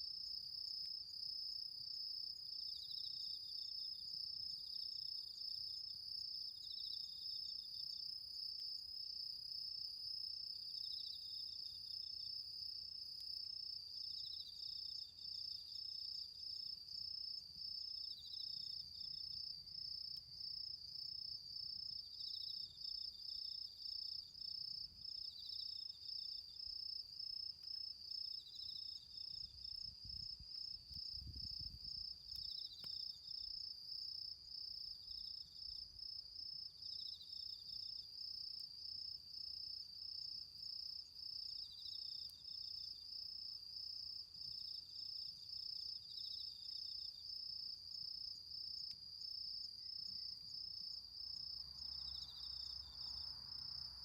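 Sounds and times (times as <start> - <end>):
insect pulsing high chirp: 0.0 - 54.0.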